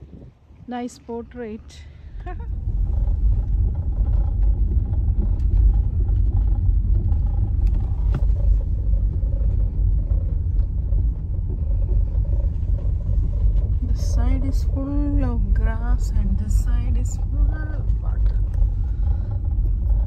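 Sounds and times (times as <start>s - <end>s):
tyres rumbling on gravel road: 0.0s - 20.0s.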